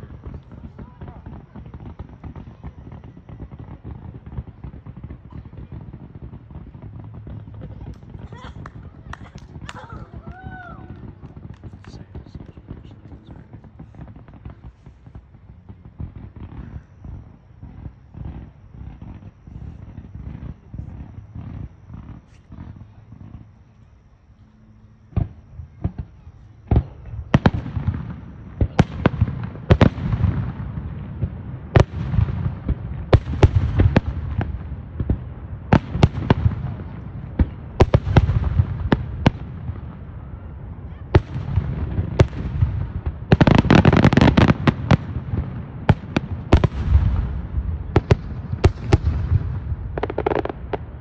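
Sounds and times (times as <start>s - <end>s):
firework crackling: 0.0s - 51.0s.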